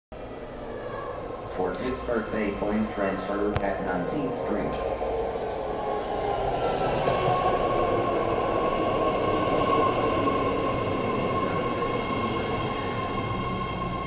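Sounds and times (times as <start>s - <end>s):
high train whine: 0.1s - 14.0s.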